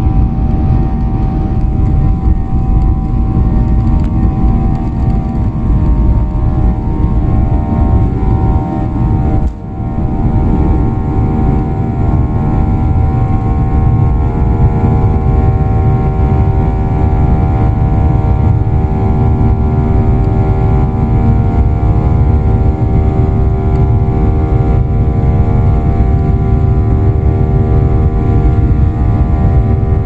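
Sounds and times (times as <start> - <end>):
jet engines rumbling: 0.0 - 30.0
whining engine tones: 0.0 - 30.0.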